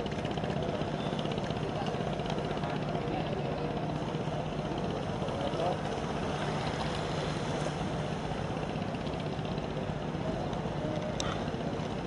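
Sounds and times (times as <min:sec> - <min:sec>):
ship engines humming: 0:00.0 - 0:12.0.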